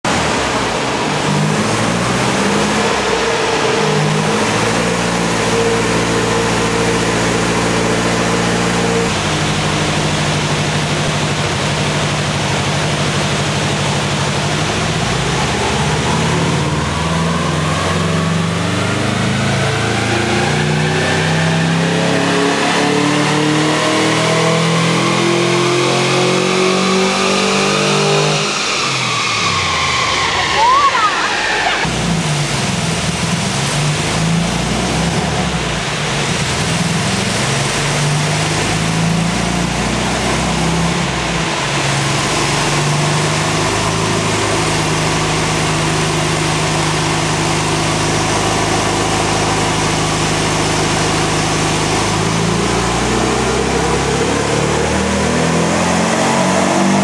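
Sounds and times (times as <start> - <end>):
engine revving on dynamometer: 0.0 - 57.0.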